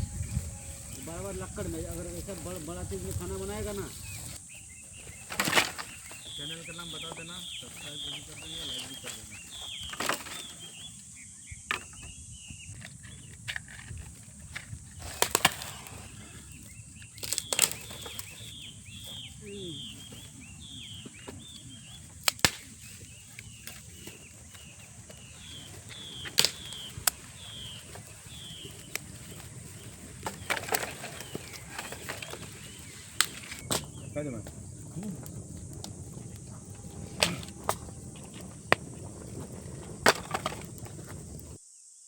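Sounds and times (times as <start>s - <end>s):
bird chirping: 0.0s - 13.5s, 15.6s - 41.6s
high insect drone: 0.0s - 22.2s, 22.8s - 42.0s.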